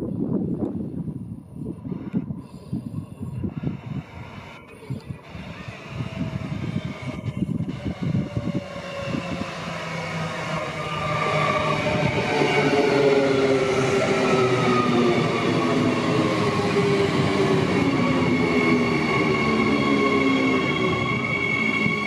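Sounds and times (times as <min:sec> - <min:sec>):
wheel and rail rumble: 0:00.0 - 0:22.0
electric train motor whine: 0:03.4 - 0:22.0.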